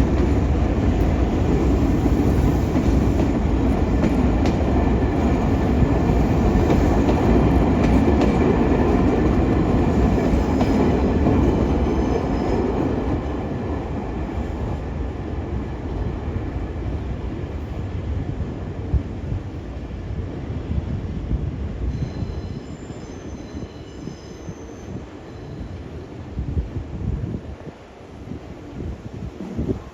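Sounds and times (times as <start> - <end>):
train rolling past on rails: 0.0 - 29.9.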